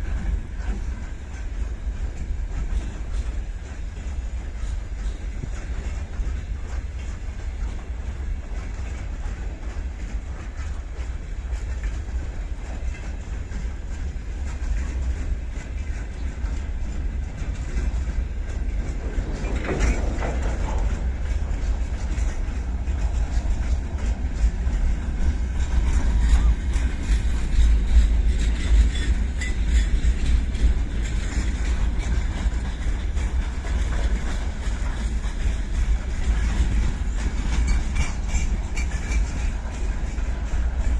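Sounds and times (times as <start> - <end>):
train low rumble: 0.0 - 40.9
train wheels clacking on rails: 0.0 - 40.9.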